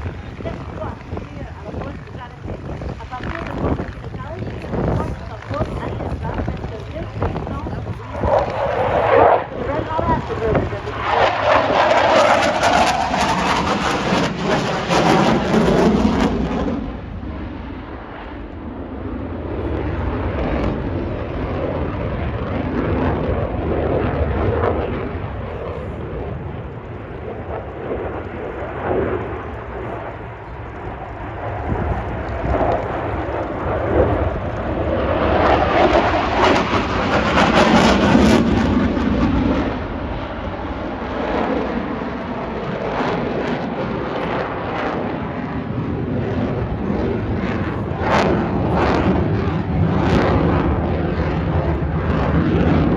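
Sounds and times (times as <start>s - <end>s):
aircraft engine rumble: 0.0s - 52.9s.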